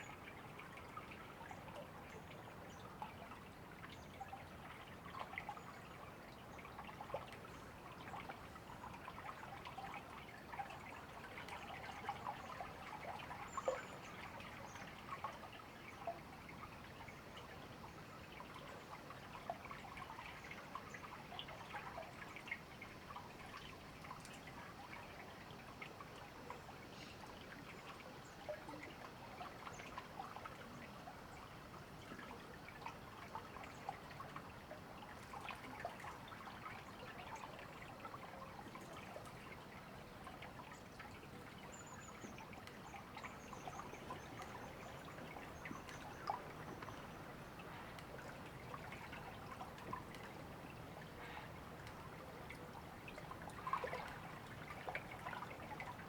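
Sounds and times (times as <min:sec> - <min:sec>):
small river babbling: 0:00.0 - 0:56.0.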